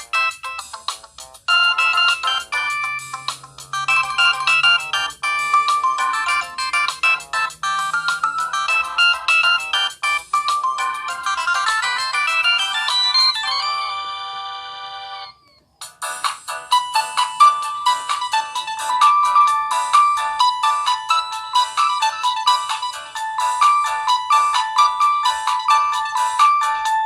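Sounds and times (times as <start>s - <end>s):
synthesized ringtone melody: 0.0s - 27.0s.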